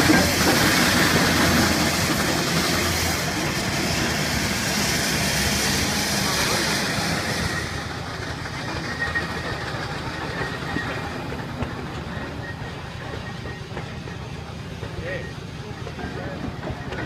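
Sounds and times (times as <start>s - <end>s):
steam engine chuffing: 0.0s - 17.0s
steam hissing: 0.0s - 17.0s.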